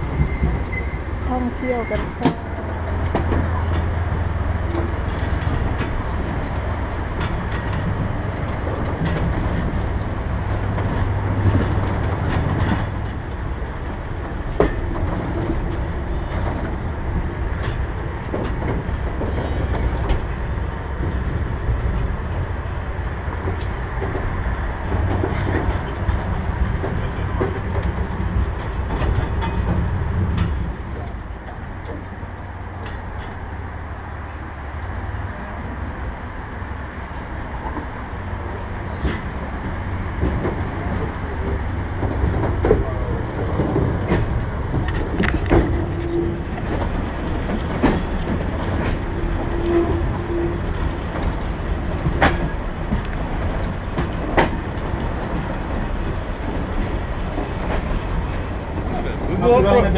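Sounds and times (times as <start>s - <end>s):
train wheels clicking and knocking: 0.0s - 33.7s, 37.1s - 59.9s
train rumbling on track: 0.0s - 59.9s.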